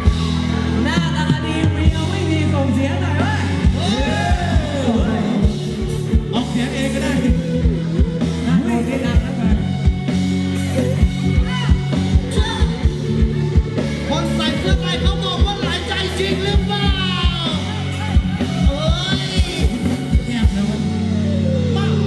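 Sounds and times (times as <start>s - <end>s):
steady drum beat: 0.0s - 21.0s
bass line: 0.0s - 22.0s.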